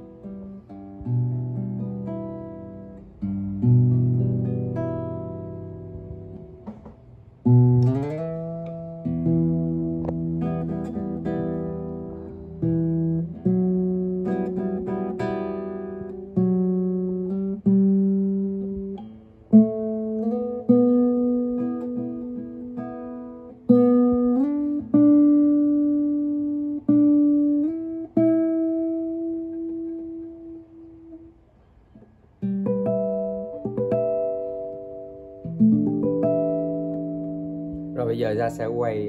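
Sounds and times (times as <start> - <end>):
fingerpicked nylon-string guitar: 0.0 - 39.0.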